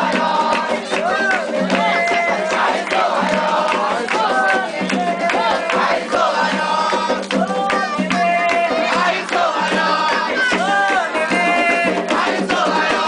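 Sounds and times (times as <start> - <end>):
group of voices chanting: 0.0 - 13.0
steady drumming: 0.0 - 13.0.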